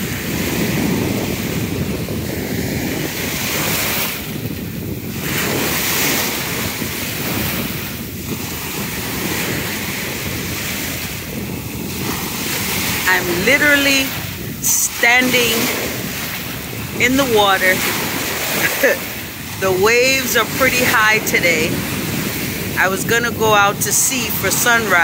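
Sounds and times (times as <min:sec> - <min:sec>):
ocean surf breaking: 0:00.0 - 0:25.0
wind on microphone: 0:00.0 - 0:25.0.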